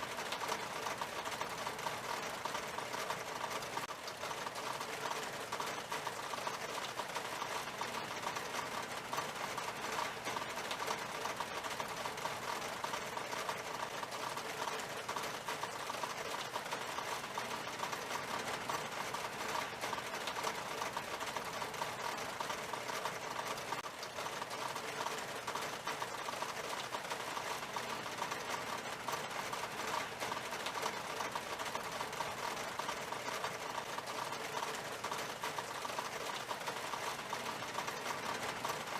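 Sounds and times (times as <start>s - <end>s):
rain on a glass window: 0.0s - 38.9s.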